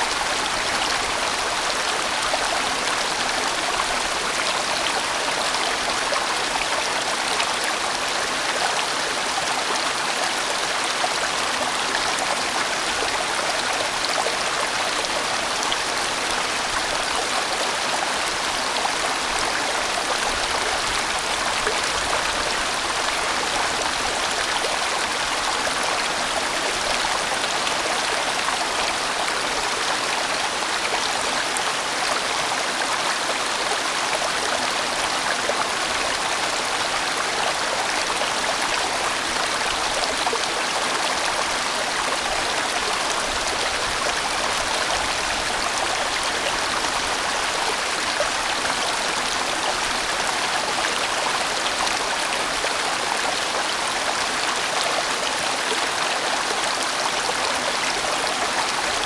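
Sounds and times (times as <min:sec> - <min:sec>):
mountain stream rushing over rocks: 0:00.0 - 0:59.0.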